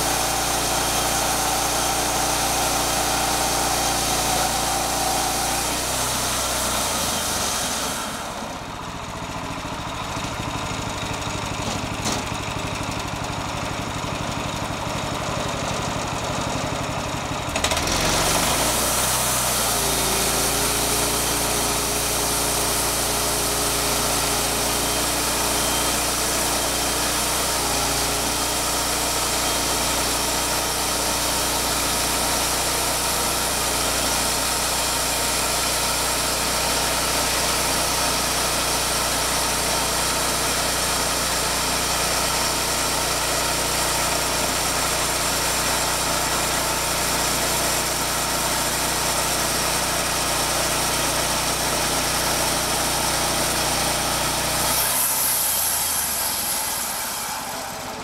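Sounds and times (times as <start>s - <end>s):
band blade sawing log: 0.0s - 8.8s, 17.6s - 58.0s
small gasoline engine running: 0.0s - 58.0s.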